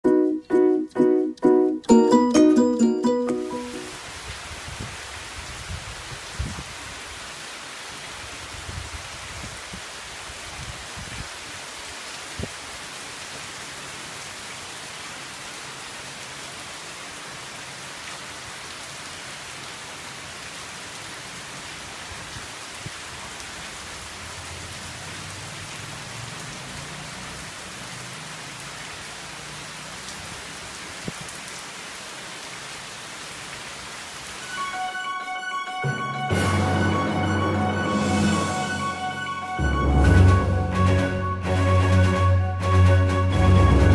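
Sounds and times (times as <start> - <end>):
heavy rain on tiles and trees: 2.8 - 43.9.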